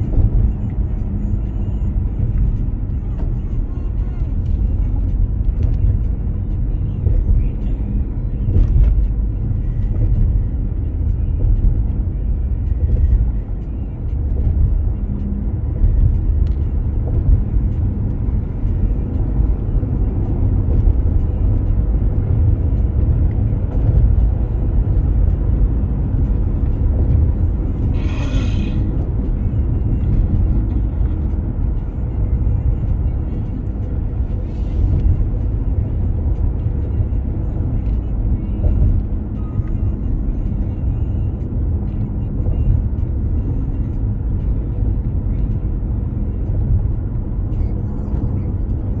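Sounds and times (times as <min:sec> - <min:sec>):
road and engine rumble in car: 0:00.0 - 0:49.0.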